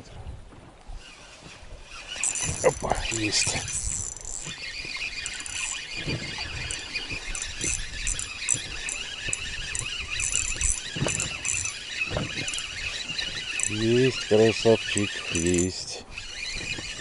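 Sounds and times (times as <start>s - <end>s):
fishing reel winding: 1.0s - 17.0s.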